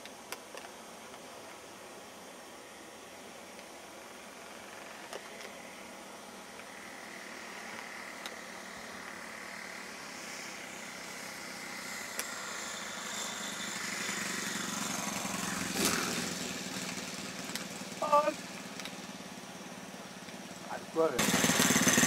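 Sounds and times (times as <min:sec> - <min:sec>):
model airplane engine buzzing: 0:01.5 - 0:22.0.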